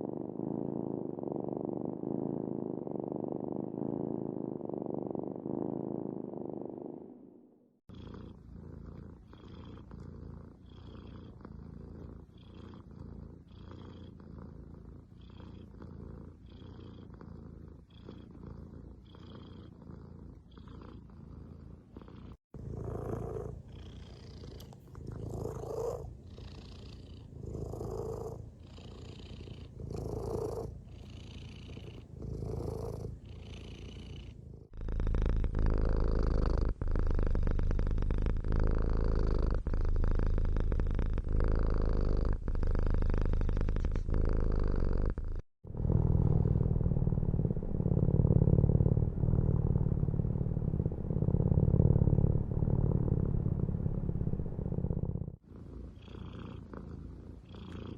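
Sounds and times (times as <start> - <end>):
cats purring: 0.0 - 57.9.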